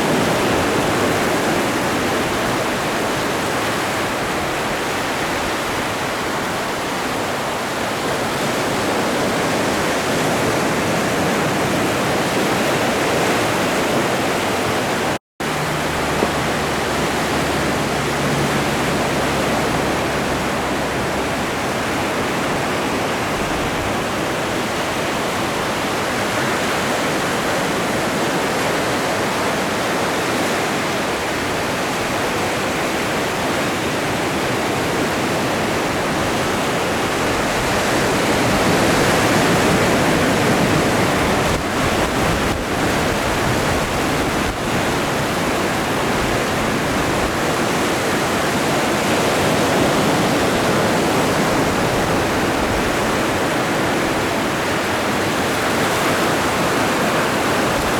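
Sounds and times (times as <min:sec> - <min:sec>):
ocean waves rushing: 0:00.0 - 0:57.9.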